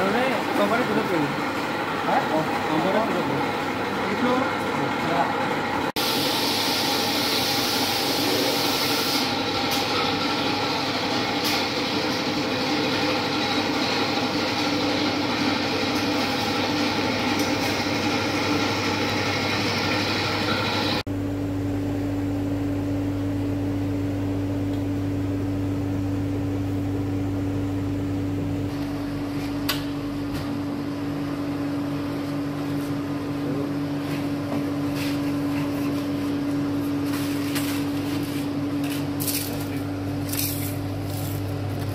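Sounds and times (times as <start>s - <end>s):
machine whir and hum: 0.0s - 41.9s.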